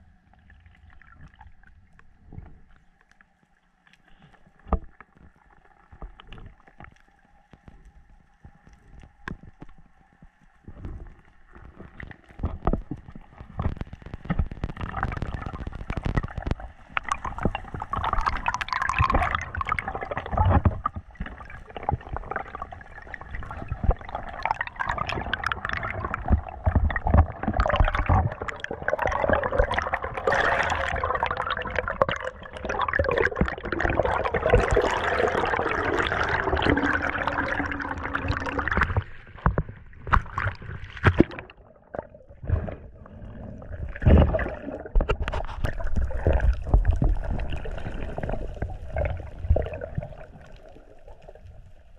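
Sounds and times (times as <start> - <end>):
underwater gurgling and sloshing: 0.0 - 51.9
water splashes: 4.0 - 51.9
bubbling: 4.1 - 51.9.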